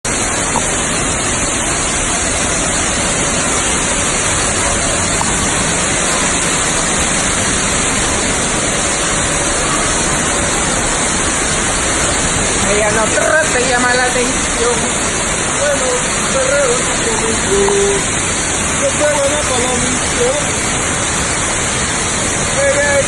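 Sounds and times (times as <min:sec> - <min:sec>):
falling water rushing: 0:00.0 - 0:23.0.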